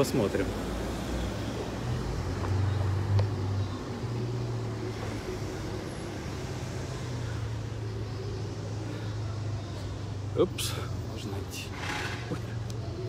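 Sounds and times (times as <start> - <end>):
traffic engine hum: 0.0 - 13.0.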